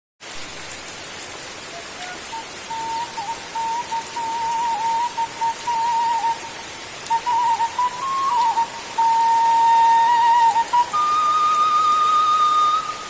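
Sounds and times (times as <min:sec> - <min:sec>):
steady rain falling: 0:00.2 - 0:13.0.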